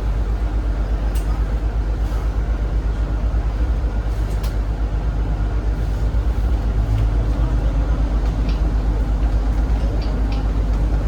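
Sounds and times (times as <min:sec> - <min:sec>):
bus cabin low rumble: 0:00.0 - 0:11.0.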